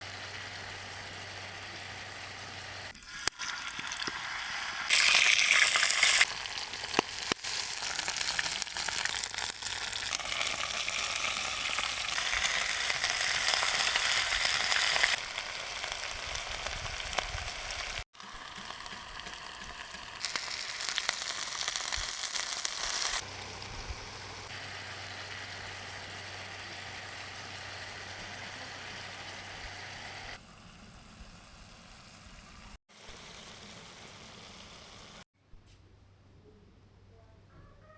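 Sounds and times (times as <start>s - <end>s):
chicken sizzling in a pan: 0.0s - 35.2s.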